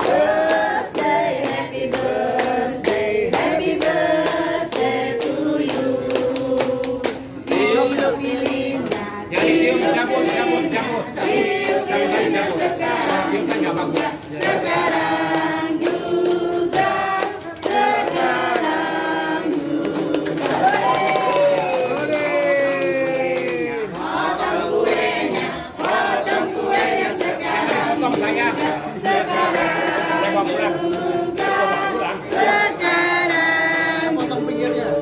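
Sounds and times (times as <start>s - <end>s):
group singing: 0.0s - 21.1s, 22.0s - 35.0s
people clapping: 0.0s - 35.0s.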